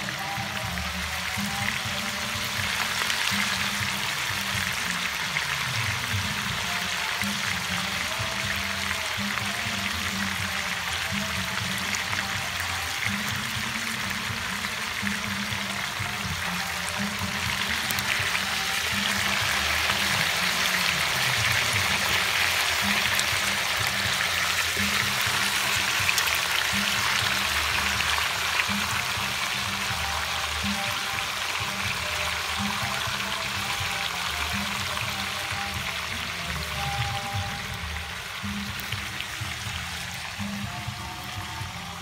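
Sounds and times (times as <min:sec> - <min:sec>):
background music with bass line: 0:00.0 - 0:42.0.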